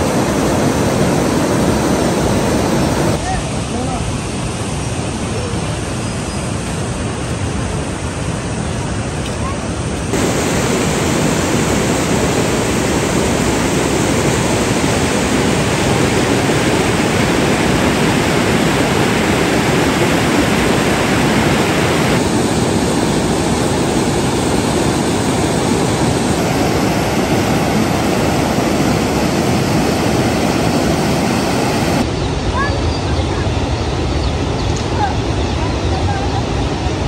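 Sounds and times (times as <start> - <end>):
mountain stream rushing: 0.0 - 33.7.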